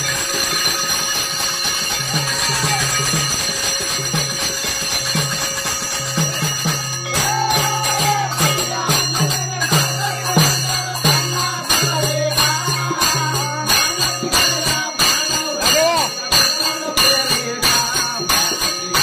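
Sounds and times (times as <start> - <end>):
hand cymbals clashing: 0.0 - 19.0.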